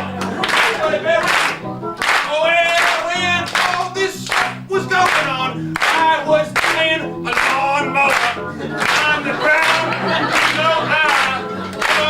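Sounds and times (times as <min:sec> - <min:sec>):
voices singing gospel song: 0:00.0 - 0:01.6, 0:02.3 - 0:12.0
hands clapping: 0:00.0 - 0:12.0
piano: 0:00.0 - 0:12.0.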